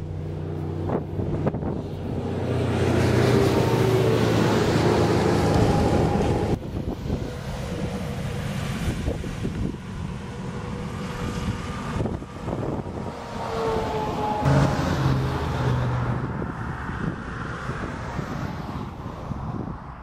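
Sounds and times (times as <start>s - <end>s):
highway traffic passing: 0.0s - 20.0s
truck passing: 0.0s - 20.0s.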